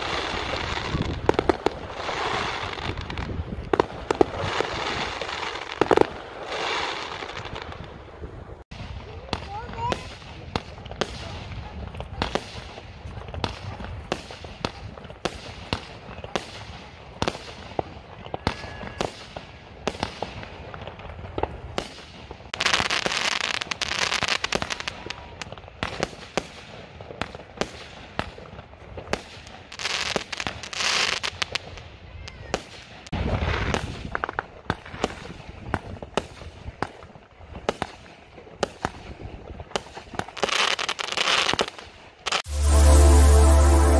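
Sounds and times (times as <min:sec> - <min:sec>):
fireworks bangs and pops: 0:00.0 - 0:43.9
fireworks crackling: 0:00.0 - 0:43.9.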